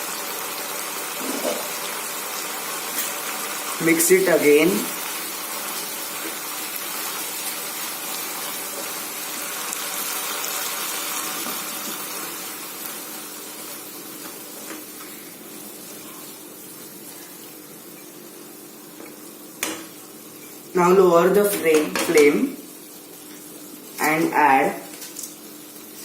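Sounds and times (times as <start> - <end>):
water boiling and bubbling: 0.0 - 26.0.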